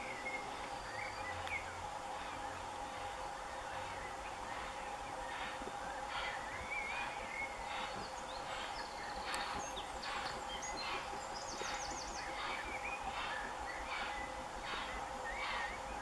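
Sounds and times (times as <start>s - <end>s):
birds singing: 0.0s - 16.0s
distant steam locomotive chuffing: 0.0s - 16.0s.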